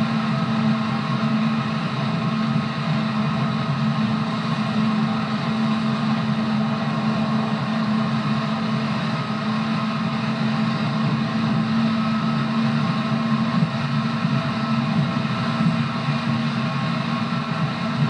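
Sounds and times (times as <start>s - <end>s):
electric train low drone: 0.0s - 18.0s
faint steady whine: 0.0s - 18.0s.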